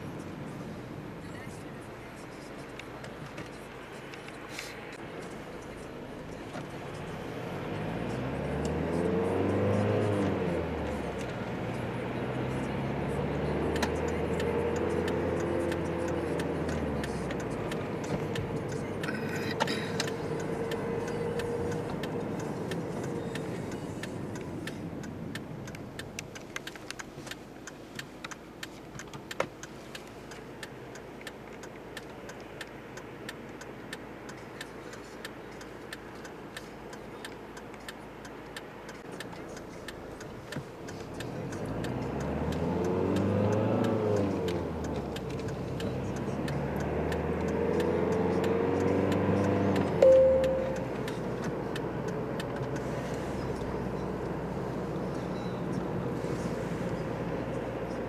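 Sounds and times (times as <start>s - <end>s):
car engine: 0.0s - 58.0s
road noise: 0.0s - 58.0s
turn signal ticking: 0.0s - 58.0s.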